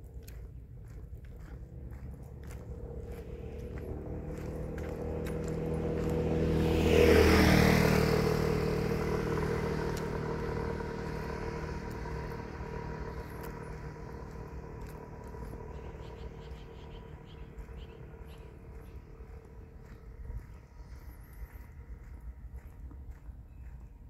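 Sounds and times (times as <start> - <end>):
vehicle driving past: 0.2 - 23.8.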